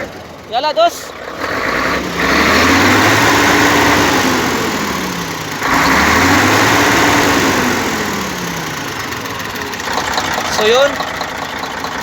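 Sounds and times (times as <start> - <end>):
truck diesel engine revving: 0.0 - 12.0.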